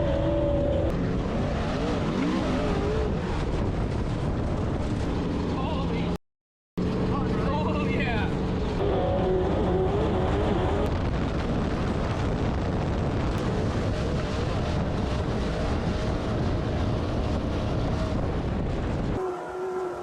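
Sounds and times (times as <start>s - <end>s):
off-road vehicle engine running hard: 0.0s - 6.2s, 6.8s - 20.0s
wind rumble on microphone: 0.0s - 6.2s, 6.8s - 20.0s.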